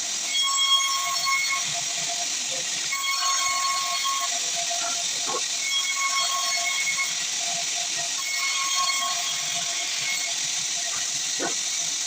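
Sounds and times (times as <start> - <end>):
saw cutting through log: 0.0 - 12.0.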